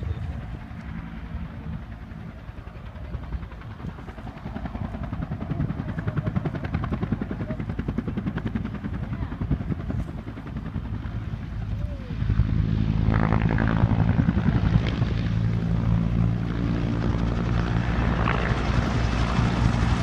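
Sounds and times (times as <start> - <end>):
helicopter rotor beating: 0.0 - 20.0.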